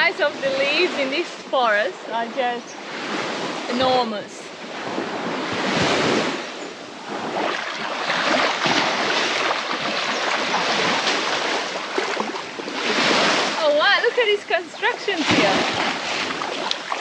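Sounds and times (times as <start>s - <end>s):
small waves washing on beach: 0.0s - 17.0s.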